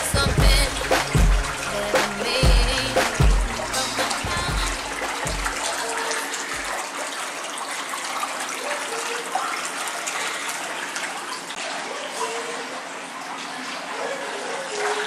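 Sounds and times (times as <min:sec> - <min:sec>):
water rushing from water feature: 0:00.0 - 0:15.0.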